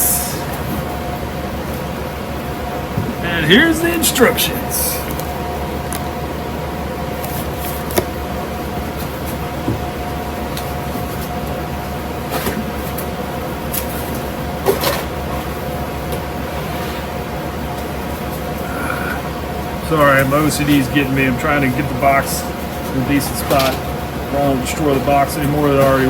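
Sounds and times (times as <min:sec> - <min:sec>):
room hum: 0:00.0 - 0:26.0.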